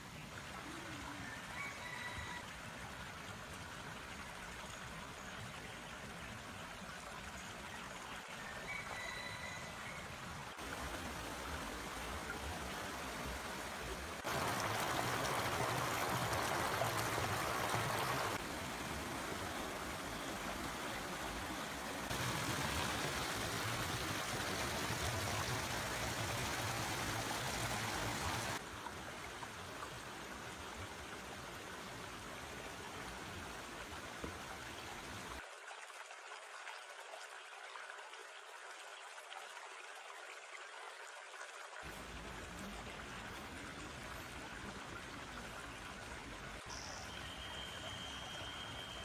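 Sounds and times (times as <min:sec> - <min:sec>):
stream flowing: 0:00.0 - 0:49.0.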